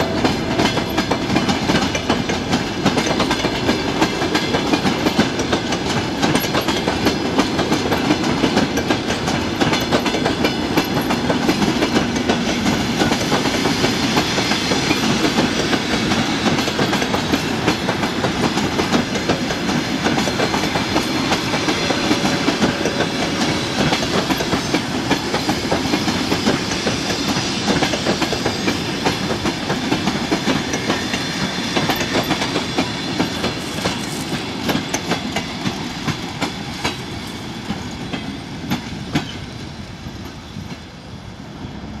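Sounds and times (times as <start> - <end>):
train wheels clattering over rails: 0.0 - 42.0.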